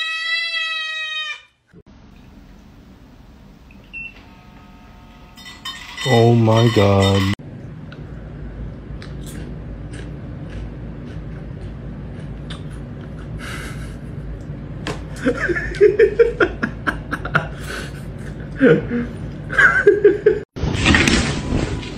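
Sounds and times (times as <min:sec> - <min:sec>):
steady low hum: 0:01.8 - 0:20.4.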